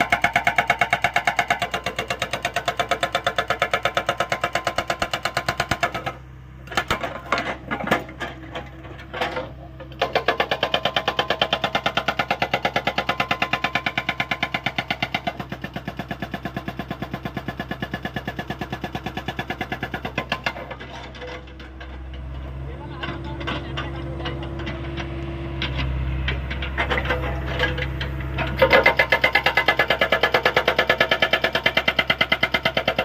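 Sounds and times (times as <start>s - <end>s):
excavator engine hum: 0.0s - 33.0s
hydraulic rock breaker hammering: 0.0s - 33.0s.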